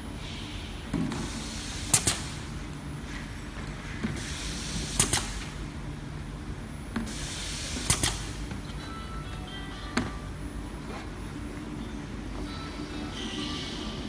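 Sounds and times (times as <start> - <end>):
labelling machine hum and hiss: 0.0 - 14.0.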